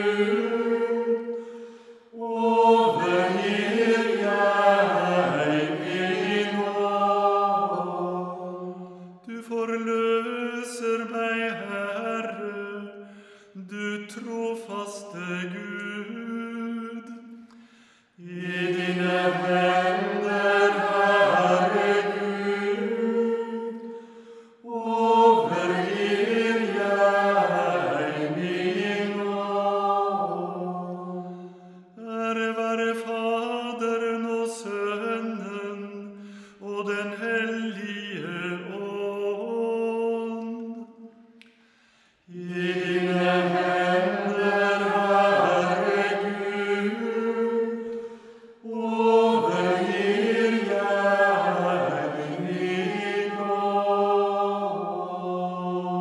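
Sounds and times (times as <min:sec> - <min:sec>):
voices singing a chant: 0:00.0 - 0:17.2, 0:18.2 - 0:41.2, 0:42.3 - 0:56.0.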